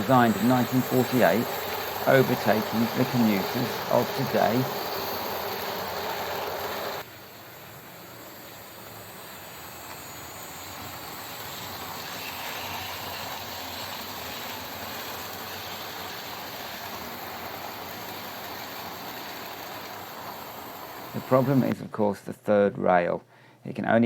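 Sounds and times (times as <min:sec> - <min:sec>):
model trains running on track: 0:00.0 - 0:21.8.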